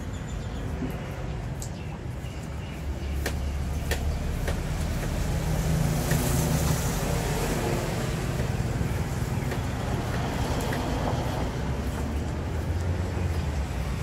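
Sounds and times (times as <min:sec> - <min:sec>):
street traffic engine rumble: 0:00.0 - 0:14.0.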